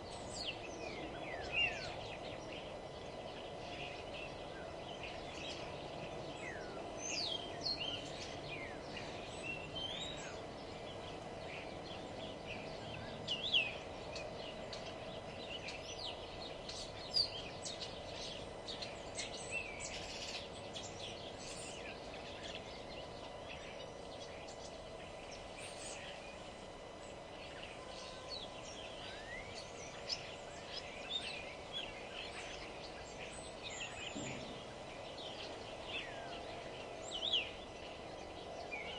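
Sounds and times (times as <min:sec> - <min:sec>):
low background hum: 0:00.0 - 0:38.9
songbirds chirping and singing: 0:00.0 - 0:38.9.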